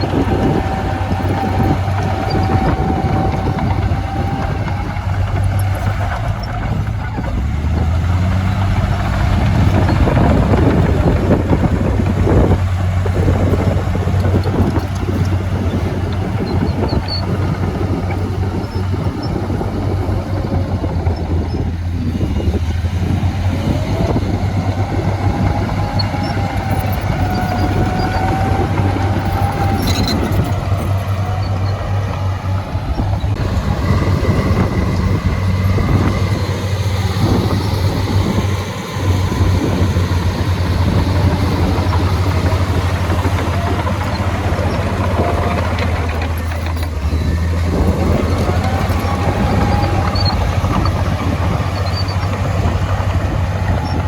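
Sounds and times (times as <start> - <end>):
heavy machinery diesel engine: 0.0 - 54.0
machinery whine: 0.0 - 54.0.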